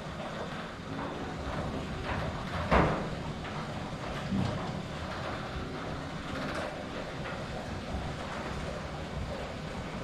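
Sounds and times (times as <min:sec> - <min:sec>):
garage door motor running: 0:00.1 - 0:10.0.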